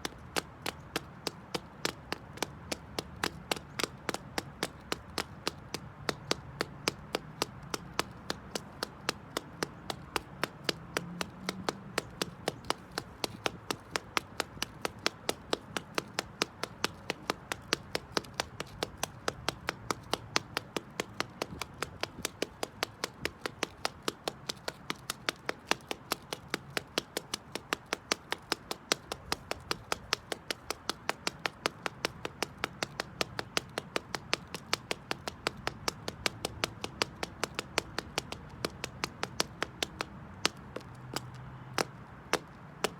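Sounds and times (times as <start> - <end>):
high heels clicking on concrete: 0.0 - 42.9.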